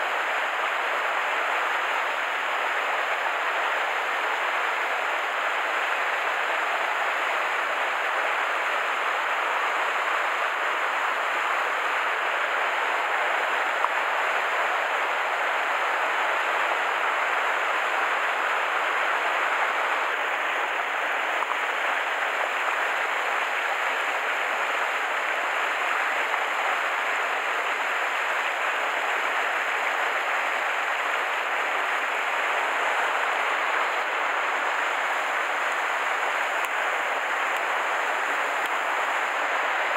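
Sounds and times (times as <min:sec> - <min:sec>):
mountain stream water rushing: 0:00.0 - 0:39.9.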